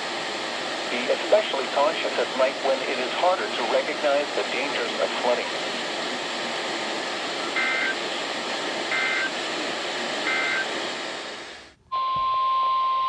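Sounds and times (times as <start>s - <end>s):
radio static hiss: 0.0s - 11.7s.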